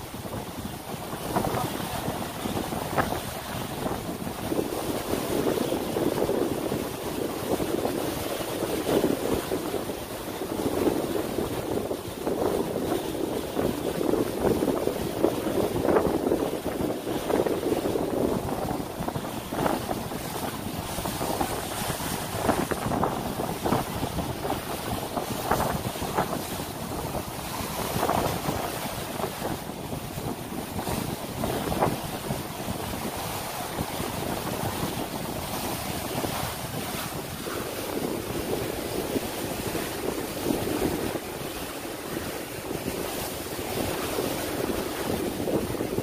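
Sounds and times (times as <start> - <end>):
water rushing past boat: 0.0 - 46.0
wind buffeting microphone: 0.0 - 46.0.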